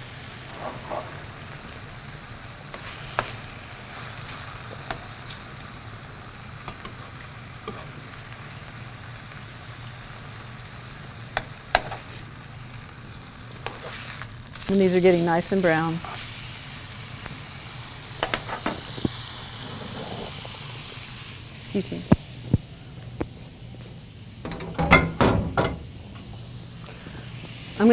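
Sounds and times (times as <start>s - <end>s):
cutlets sizzling in hot oil: 0.0s - 22.7s, 24.3s - 27.9s.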